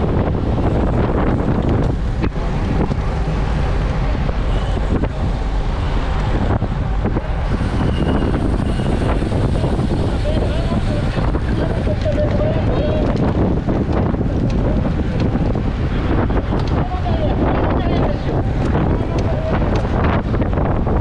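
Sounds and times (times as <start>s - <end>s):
tyre and road rumble: 0.0s - 21.0s
wind buffeting microphone: 0.0s - 21.0s.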